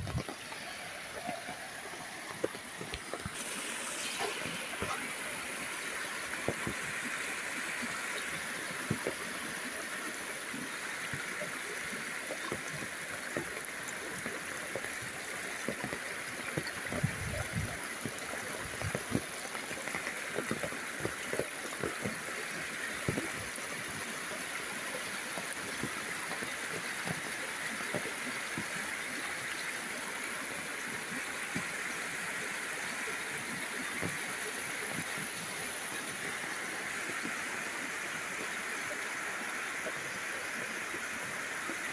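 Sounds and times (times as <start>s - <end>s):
rainwater flowing: 0.0s - 41.9s
water splashing and gurgling: 0.0s - 41.9s.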